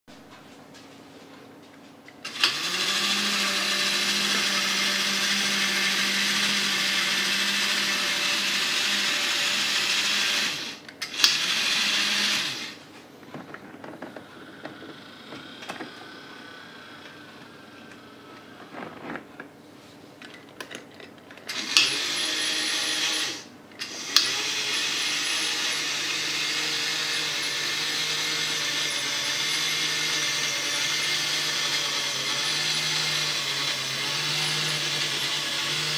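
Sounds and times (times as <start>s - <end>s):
turntable electric drive whirring: 2.2s - 19.5s, 21.5s - 35.9s.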